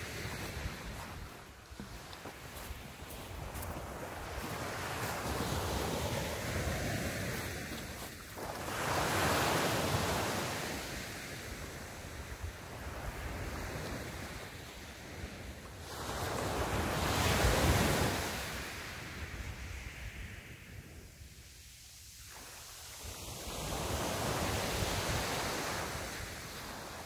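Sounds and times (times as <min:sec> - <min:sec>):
small waves breaking on beach: 0:00.0 - 0:27.0.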